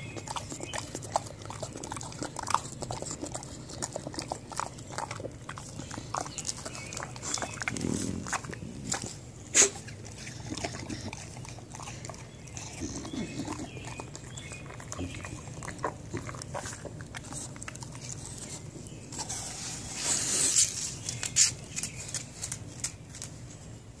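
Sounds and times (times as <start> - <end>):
dog chewing apple: 0.0 - 23.5.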